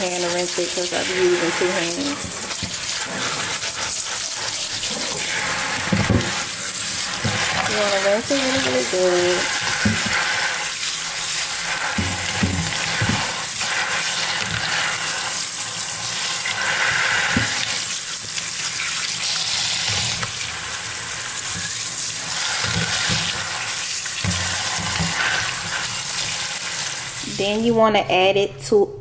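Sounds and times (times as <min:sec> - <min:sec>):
kitchen tap running: 0:00.0 - 0:27.7.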